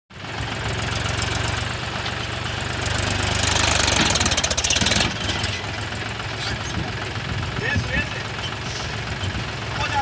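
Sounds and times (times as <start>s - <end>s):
diesel tractor engine chugging: 0.1s - 10.0s.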